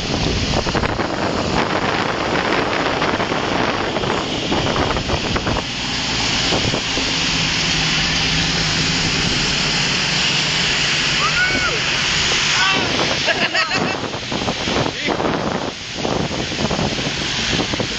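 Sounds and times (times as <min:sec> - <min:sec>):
tyres rushing on wet road: 0:00.0 - 0:17.9
wind buffeting microphone: 0:00.0 - 0:17.9.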